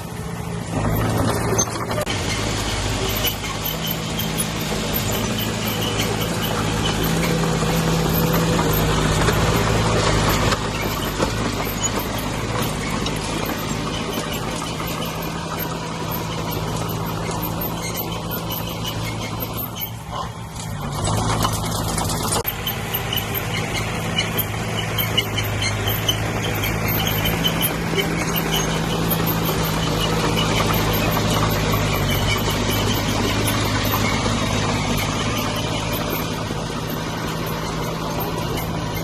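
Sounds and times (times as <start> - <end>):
diesel engine under load: 0.0 - 39.0
grinding noise: 0.0 - 39.0.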